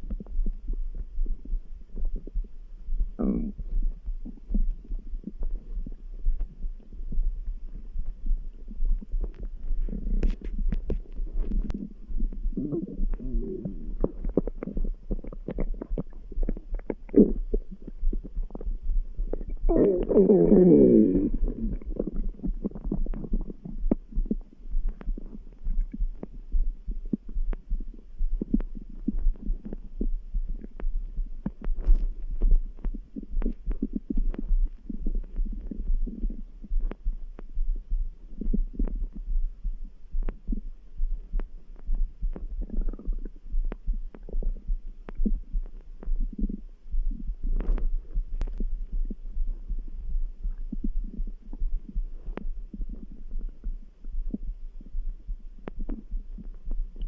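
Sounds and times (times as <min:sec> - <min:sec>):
low heartbeat throb: 0:00.0 - 0:57.0
stomach gurgling: 0:00.0 - 0:57.0.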